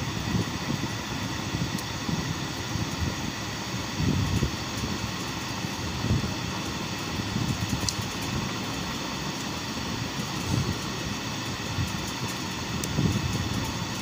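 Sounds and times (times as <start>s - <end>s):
mechanical drone with low rumble: 0.0s - 14.0s.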